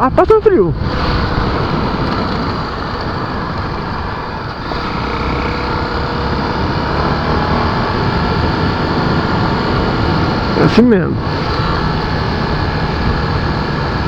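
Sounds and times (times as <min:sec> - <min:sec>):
motorcycle engine running: 0:00.0 - 0:14.0
riding noise: 0:00.0 - 0:14.0.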